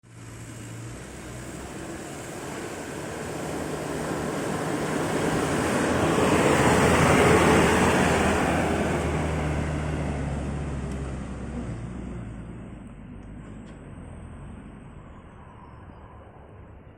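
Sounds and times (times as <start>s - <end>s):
truck driving past: 0.0s - 16.9s.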